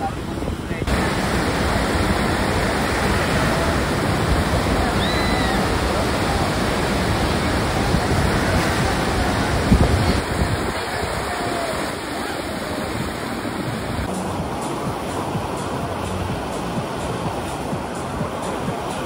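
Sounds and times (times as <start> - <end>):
ocean surf rushing: 0.0 - 19.0
wind on microphone: 0.0 - 19.0.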